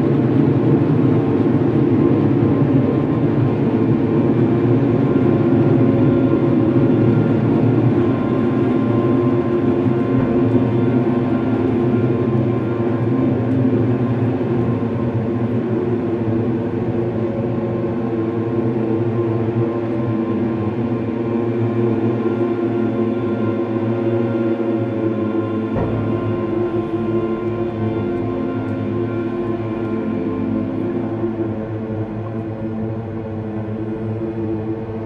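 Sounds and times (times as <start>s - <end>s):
dark ambient drone music: 0.0s - 35.0s.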